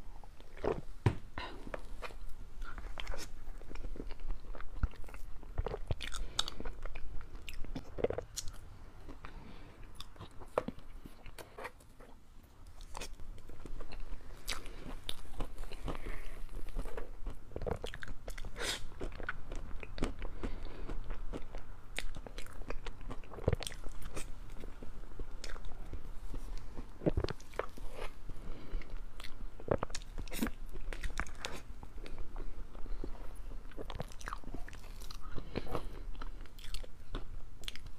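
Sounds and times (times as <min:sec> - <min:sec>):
person chewing close up: 0:01.6 - 0:37.9.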